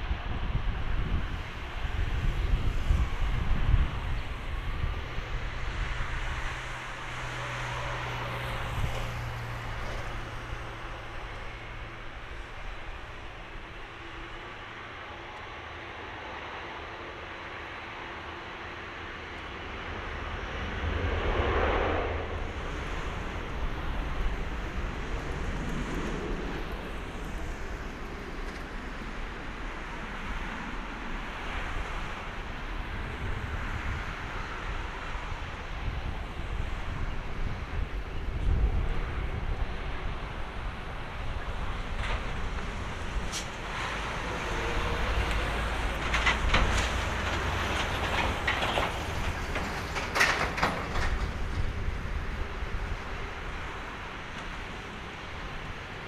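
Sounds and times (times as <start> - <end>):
wind buffeting microphone: 0.0 - 14.8, 19.6 - 56.0
jet engines running: 0.0 - 56.0.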